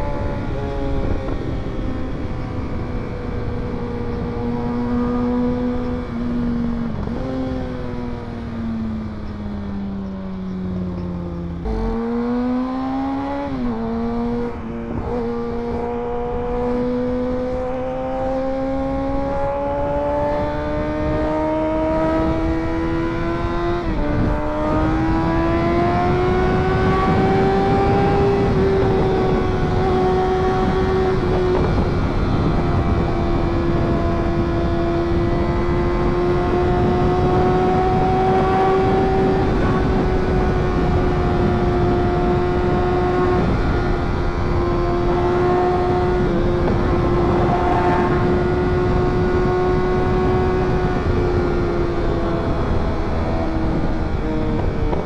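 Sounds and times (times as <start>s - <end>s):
motorcycle engine at speed: 0.0s - 55.0s
rushing wind and road noise: 0.0s - 55.0s.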